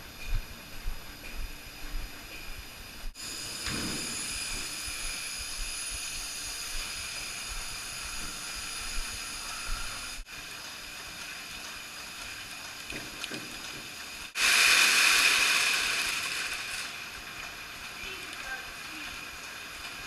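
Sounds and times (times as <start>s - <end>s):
milking machinery hissing and whining: 1.6s - 12.7s, 13.3s - 20.0s.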